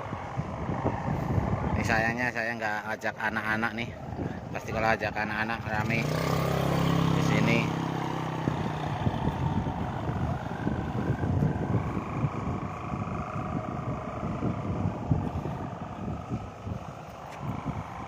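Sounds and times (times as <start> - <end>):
kite hummers humming: 0.0 - 18.0
wind buffeting microphone: 0.0 - 18.0.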